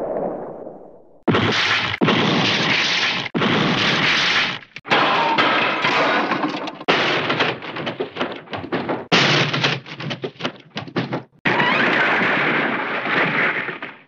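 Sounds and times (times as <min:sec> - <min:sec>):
cartoon crash with rattling clatter: 0:01.3 - 0:14.0.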